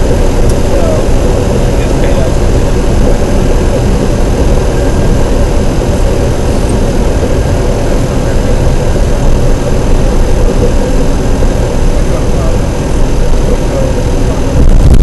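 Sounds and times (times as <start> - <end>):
light aircraft engine running: 0.0 - 15.0.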